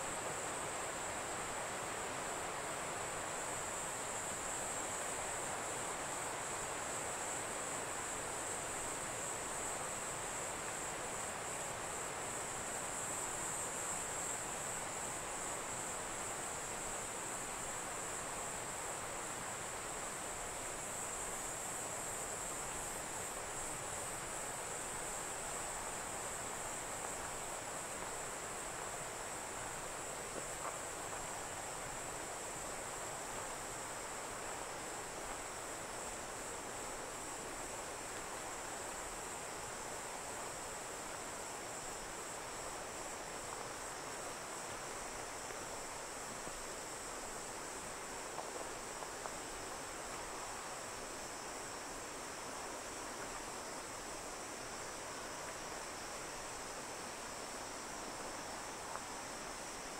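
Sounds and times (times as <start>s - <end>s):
high-pitched insect chorus: 0.0s - 59.9s
stream running: 0.0s - 59.9s.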